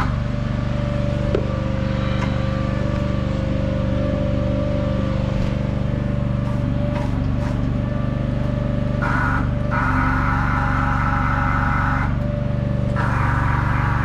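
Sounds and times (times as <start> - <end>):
engine running: 0.0 - 14.0
high steady whine: 0.0 - 14.0.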